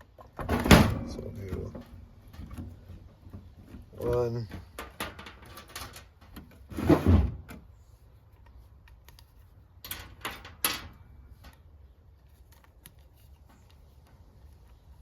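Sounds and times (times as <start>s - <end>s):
plastic parts scraping and clicking: 1.1s - 15.0s.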